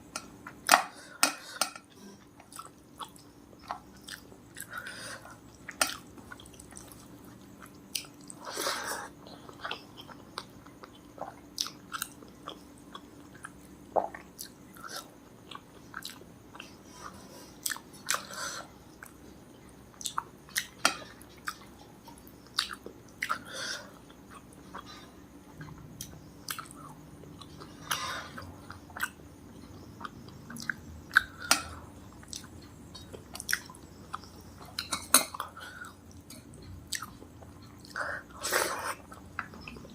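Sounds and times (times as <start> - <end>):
person chewing: 2.4 - 16.8, 17.5 - 19.2, 19.9 - 39.9.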